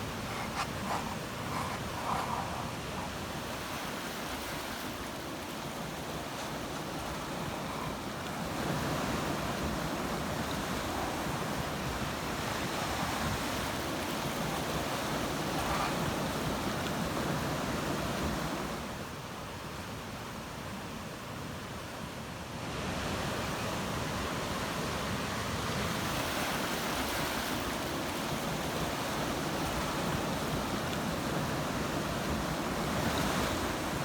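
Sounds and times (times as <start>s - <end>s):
ocean waves washing ashore: 0.0s - 19.8s, 21.2s - 34.0s.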